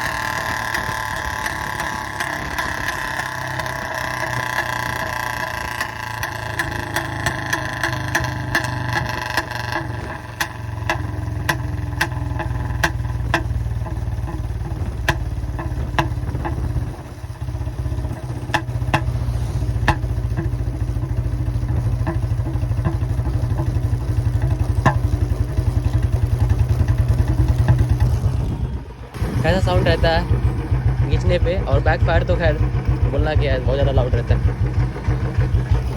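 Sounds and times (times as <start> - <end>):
exhaust pops: 0.0 - 35.9
motorcycle engine running loud: 0.0 - 35.9.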